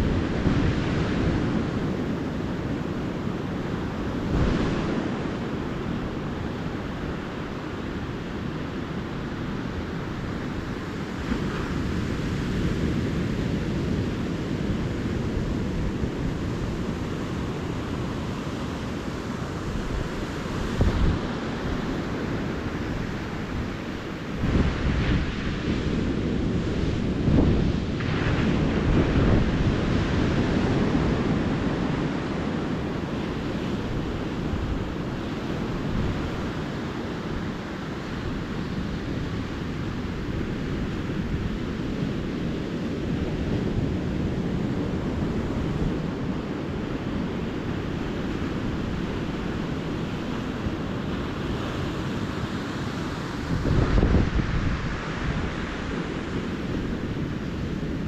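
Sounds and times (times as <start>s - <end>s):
small waves washing onto beach: 0.0s - 58.0s
wind rumbling on microphone: 0.0s - 58.0s.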